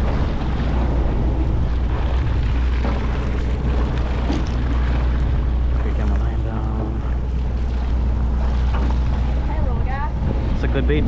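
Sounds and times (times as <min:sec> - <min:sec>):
boat engine rumbling: 0:00.0 - 0:11.0
sea noise: 0:00.0 - 0:11.0
wind: 0:00.0 - 0:11.0.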